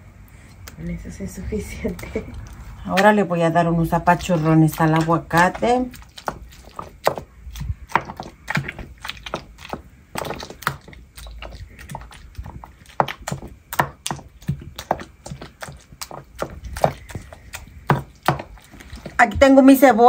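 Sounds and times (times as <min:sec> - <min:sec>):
stone pestle mashing in mortar: 0:01.9 - 0:19.9.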